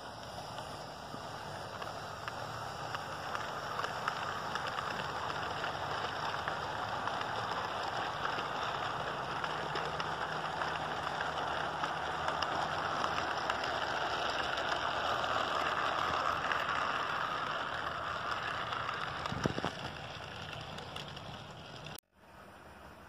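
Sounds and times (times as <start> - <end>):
model train wheels rattling on rails: 0.0 - 22.0.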